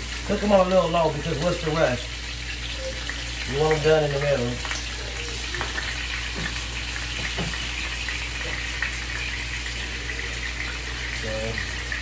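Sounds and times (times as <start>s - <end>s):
shrimp sizzling in a frying pan: 0.0s - 12.0s.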